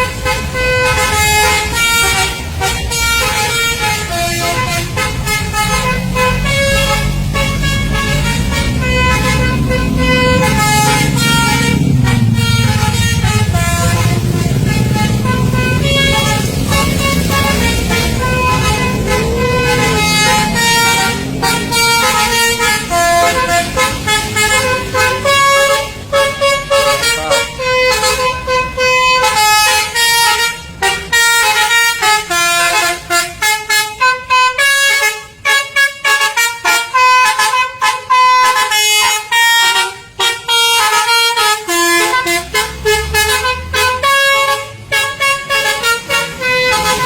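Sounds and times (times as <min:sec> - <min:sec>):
multi-tone bus air horn tune: 0:00.0 - 0:47.0.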